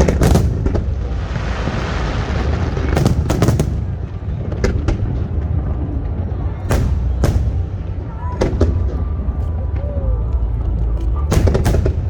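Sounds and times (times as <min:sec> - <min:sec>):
fireworks bangs: 0:00.0 - 0:10.1, 0:11.2 - 0:12.0
fireworks crackling: 0:00.0 - 0:12.0.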